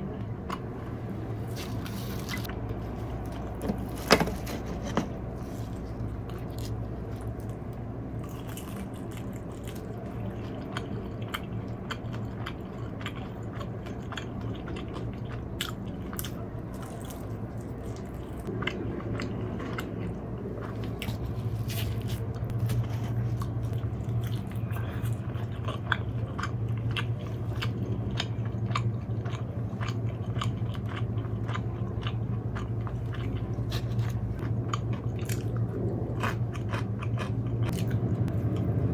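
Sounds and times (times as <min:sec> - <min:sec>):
low outdoor hum: 0:00.0 - 0:38.9
crunchy food chewing: 0:00.5 - 0:38.9.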